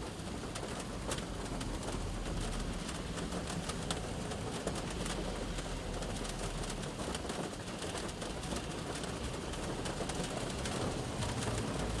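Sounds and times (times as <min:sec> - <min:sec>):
heavy rain on car roof: 0:00.0 - 0:12.0
road traffic rumble: 0:00.0 - 0:12.0.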